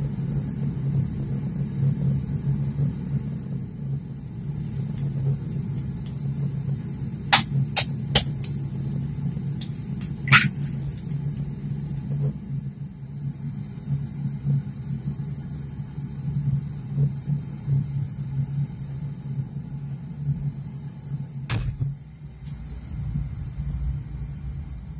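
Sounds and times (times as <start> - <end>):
water at a rolling boil: 0.0 - 24.9.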